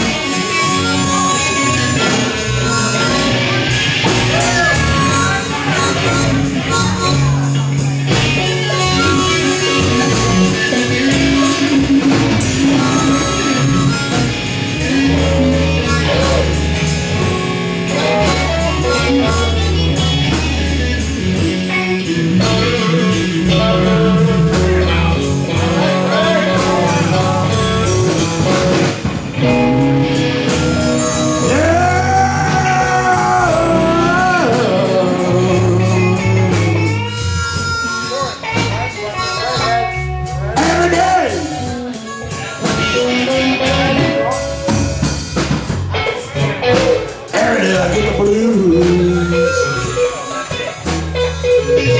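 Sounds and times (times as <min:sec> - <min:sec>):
blues-rock guitar with bass and drums: 0:00.0 - 0:51.9.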